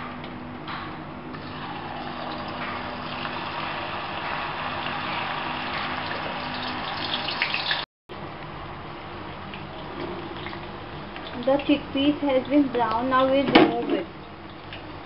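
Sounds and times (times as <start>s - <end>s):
food deep-frying in hot oil: 1.4s - 7.9s, 9.0s - 15.0s.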